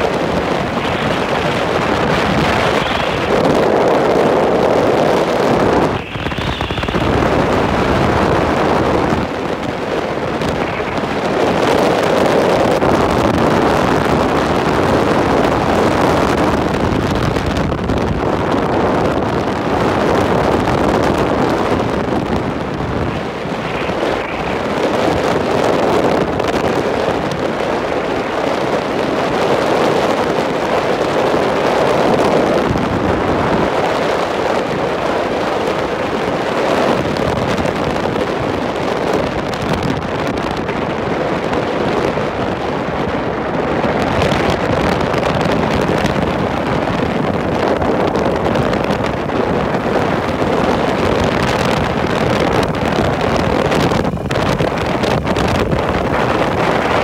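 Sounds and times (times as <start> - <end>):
vehicle and road noise: 0.0 - 57.0
wind buffeting microphone: 0.0 - 57.0.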